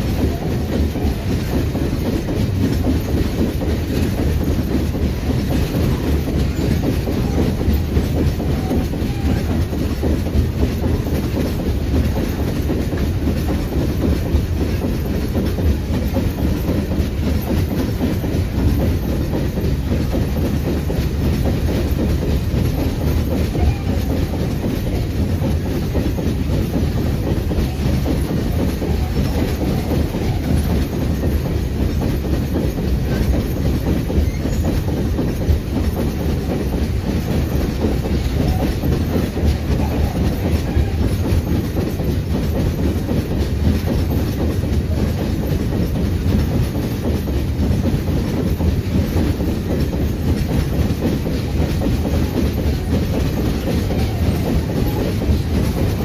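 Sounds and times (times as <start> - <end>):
freight train rumbling: 0.0 - 56.0
wheels clattering on rails: 0.0 - 56.0.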